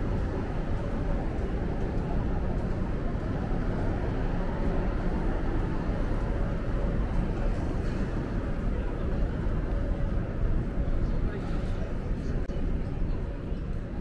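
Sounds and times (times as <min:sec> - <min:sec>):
indistinct din of people: 0:00.0 - 0:14.0
low rumble of traffic: 0:00.0 - 0:14.0.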